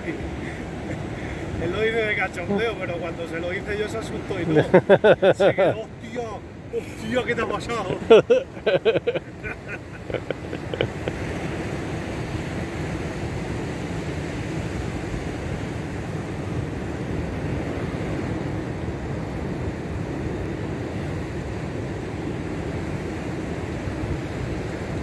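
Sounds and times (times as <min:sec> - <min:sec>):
surf rumbling: 0:00.0 - 0:25.0
wind: 0:00.0 - 0:25.0.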